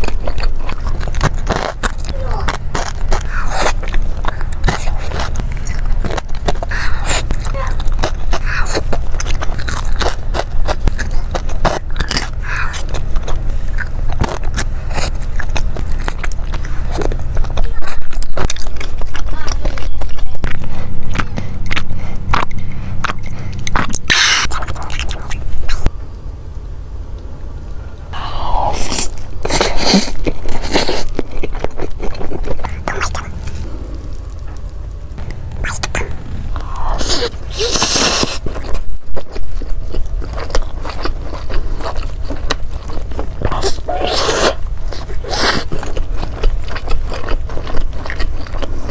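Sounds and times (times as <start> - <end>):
person biting and chewing: 0.0 - 26.0, 28.1 - 48.9
low hum: 0.0 - 48.9.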